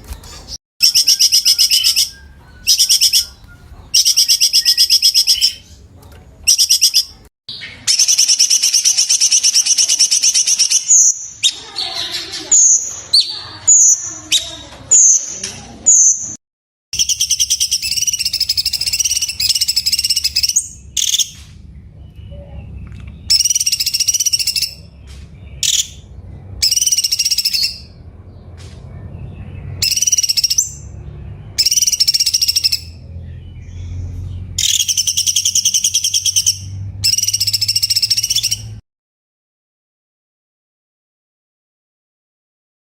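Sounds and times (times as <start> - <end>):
bird trilling song: 0.0 - 16.4, 17.0 - 38.8.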